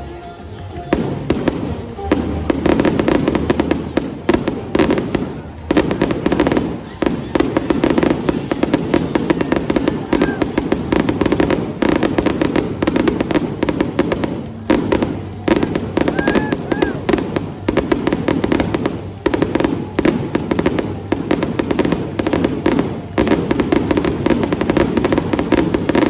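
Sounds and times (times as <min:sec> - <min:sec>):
fireworks bangs and crackles: 0:00.7 - 0:26.0.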